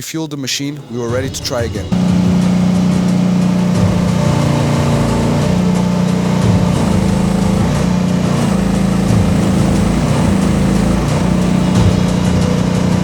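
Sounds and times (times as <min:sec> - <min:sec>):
mini excavator engine running: 0:00.9 - 0:13.0.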